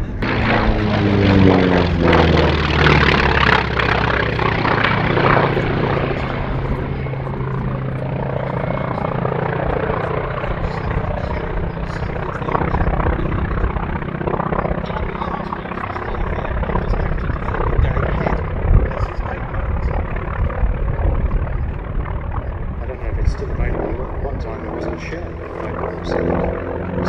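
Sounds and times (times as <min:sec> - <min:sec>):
propeller plane engine droning overhead: 0:00.0 - 0:27.0.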